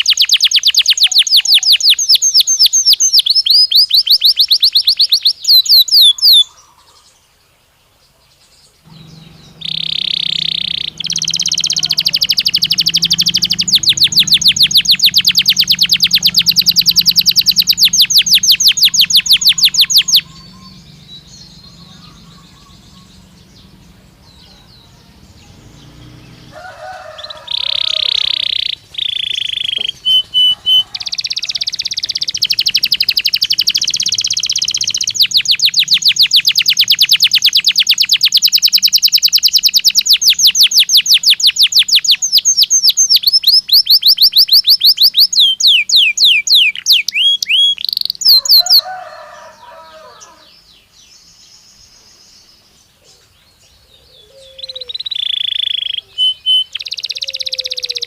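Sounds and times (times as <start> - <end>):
canary singing trills: 0.0 - 7.4, 8.4 - 58.0.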